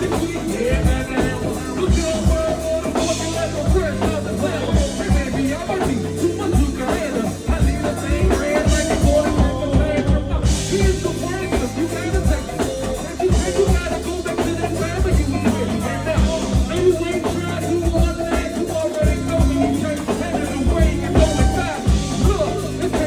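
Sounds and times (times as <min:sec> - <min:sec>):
drum kit beat: 0:00.0 - 0:23.0
live band playing jazzy groove: 0:00.0 - 0:23.0.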